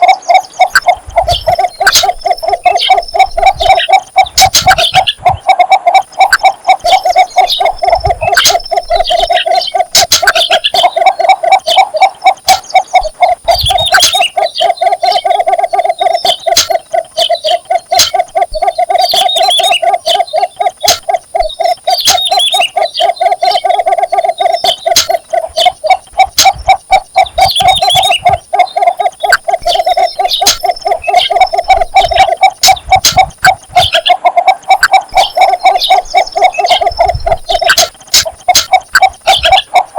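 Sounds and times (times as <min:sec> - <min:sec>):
bittern calling low notes: 0:00.0 - 0:39.9.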